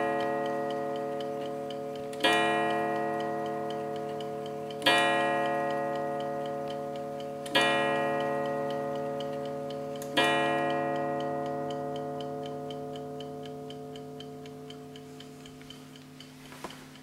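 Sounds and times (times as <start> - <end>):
clock striking a wire gong: 0.0 - 15.0
clock ticking: 0.0 - 17.0.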